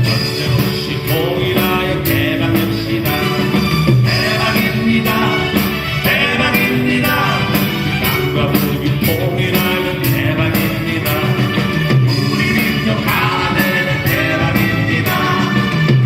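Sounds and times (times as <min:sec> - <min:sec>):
drums keeping a steady beat: 0:00.0 - 0:16.0
guitar: 0:00.0 - 0:16.0
keyboard: 0:00.0 - 0:16.0
person singing: 0:00.0 - 0:16.0.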